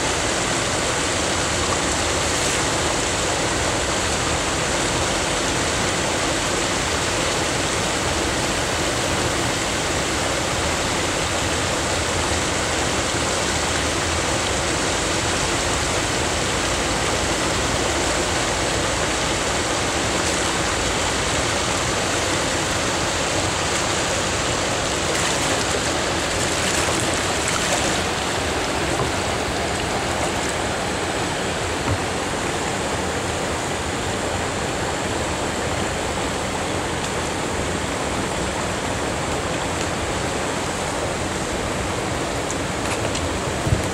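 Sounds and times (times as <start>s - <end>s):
water rushing over a weir: 0.0s - 43.9s.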